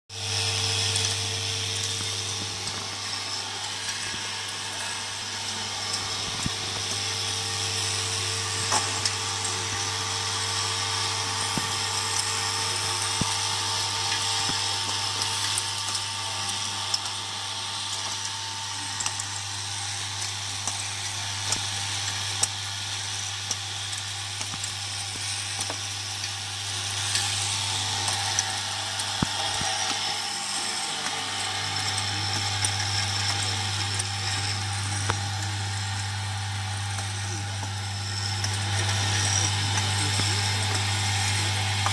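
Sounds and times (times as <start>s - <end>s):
vibratory feeder humming: 0.1s - 41.9s.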